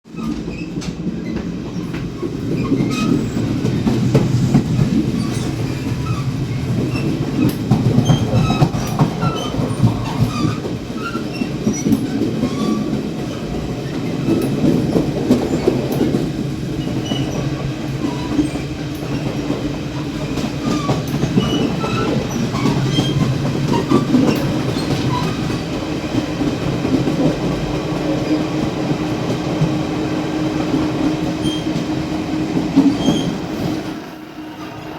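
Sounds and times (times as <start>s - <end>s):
wheels clacking over rail joints: 0.1s - 34.0s
heavy train rumble: 0.1s - 34.9s.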